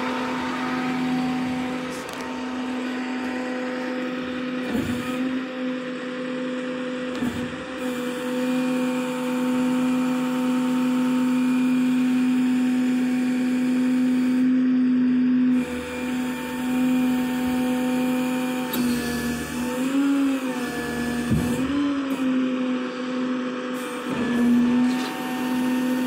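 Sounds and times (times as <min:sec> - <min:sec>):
diesel engine running: 0:00.0 - 0:26.0
hydraulic pump whine: 0:00.0 - 0:26.0.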